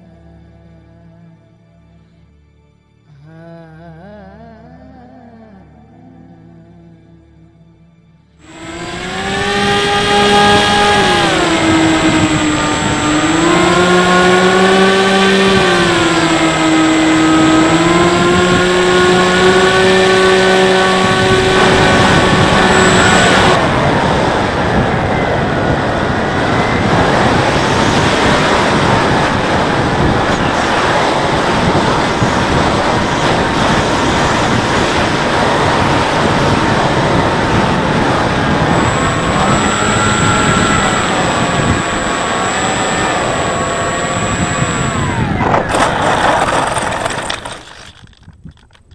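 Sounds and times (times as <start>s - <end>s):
electric motor and propeller whining: 8.4s - 48.8s
wind rushing over microphone: 8.4s - 48.9s.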